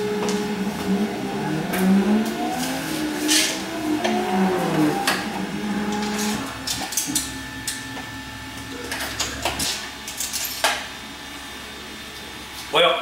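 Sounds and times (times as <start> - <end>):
stepper motors whining: 0.0 - 10.5
low hum: 0.0 - 12.4.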